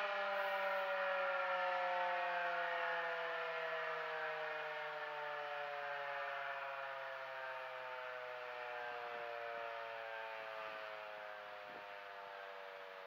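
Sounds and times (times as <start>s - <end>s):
warning siren winding down: 0.0s - 13.0s.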